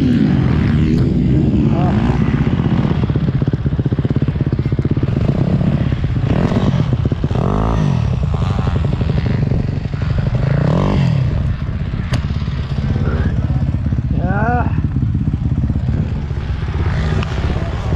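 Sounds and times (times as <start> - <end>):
dirt bike engine running close: 0.0 - 17.9
dirt bikes passing by: 0.0 - 17.9.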